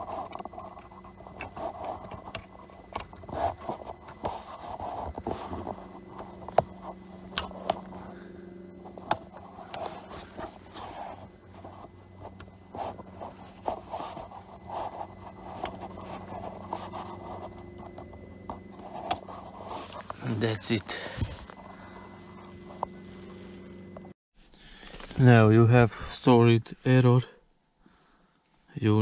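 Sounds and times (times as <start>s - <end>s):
gloved hands scraping: 0.0s - 24.1s
steady low hum: 0.0s - 24.2s.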